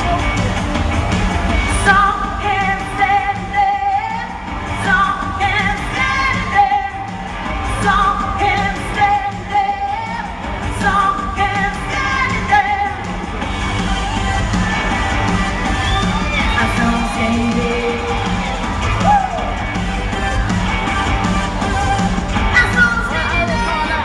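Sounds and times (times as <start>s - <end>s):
pop song through loudspeakers: 0.0s - 24.0s.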